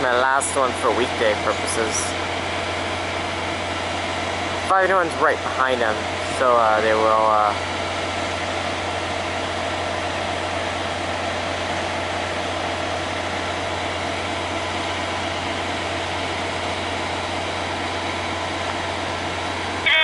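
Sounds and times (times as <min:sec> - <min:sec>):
engine idling with fan hiss: 0:00.0 - 0:20.0.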